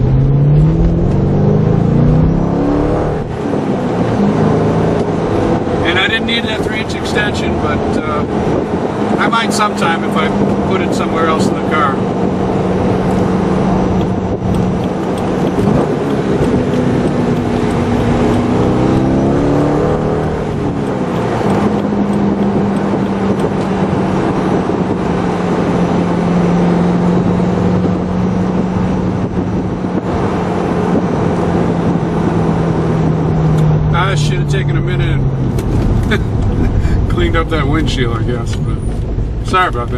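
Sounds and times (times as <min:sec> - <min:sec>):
car engine: 0:00.0 - 0:39.9
road noise inside car: 0:00.0 - 0:39.9.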